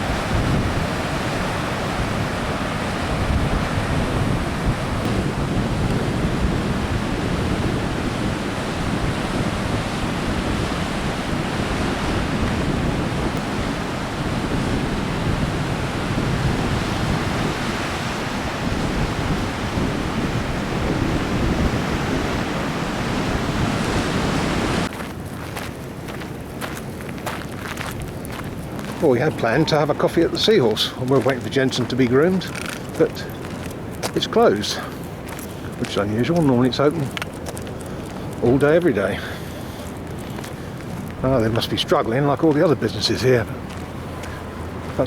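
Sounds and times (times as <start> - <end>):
heavy surf crashing: 0.0 - 25.0, 28.0 - 45.0
wind buffeting microphone: 0.0 - 45.0.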